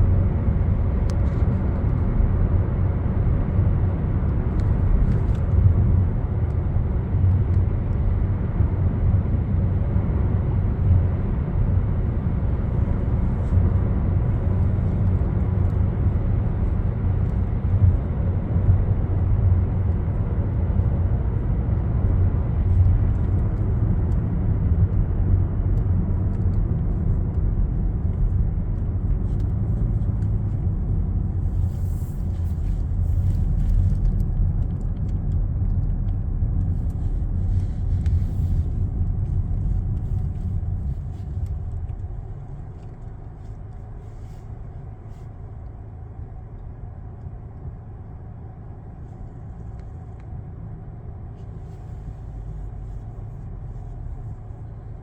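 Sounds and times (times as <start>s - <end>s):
moving vehicle rumble: 0.0s - 55.0s.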